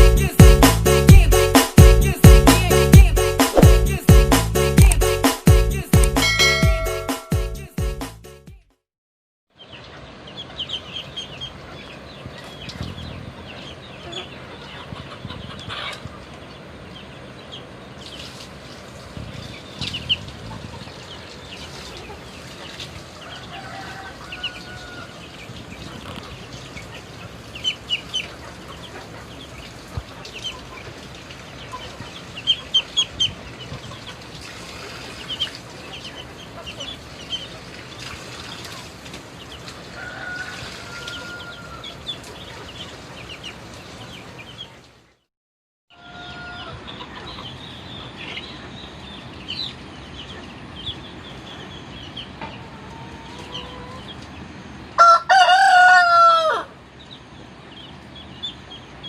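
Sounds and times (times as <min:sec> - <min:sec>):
roosters clucking: 0:09.8 - 0:44.8, 0:46.0 - 0:59.0.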